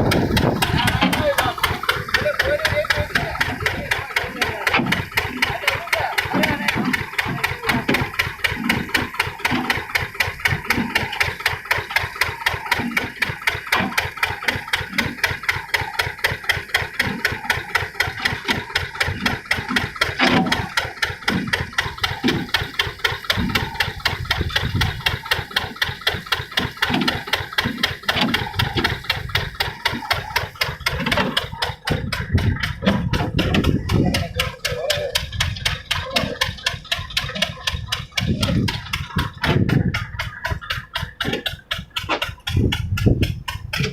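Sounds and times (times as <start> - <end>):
soil washing machine knocking: 0.0 - 43.9.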